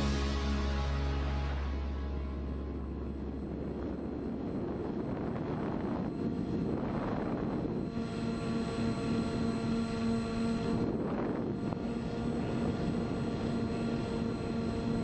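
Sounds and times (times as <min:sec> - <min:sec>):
rushing wind noise: 0:00.0 - 0:15.0
steady hum: 0:00.0 - 0:15.0
drone motors whining: 0:02.7 - 0:15.0.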